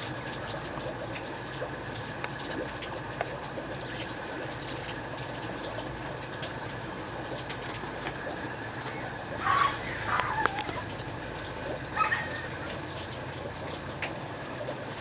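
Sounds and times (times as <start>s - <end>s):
background hum: 0.0s - 15.0s
faint scattered clicks: 0.3s - 14.8s.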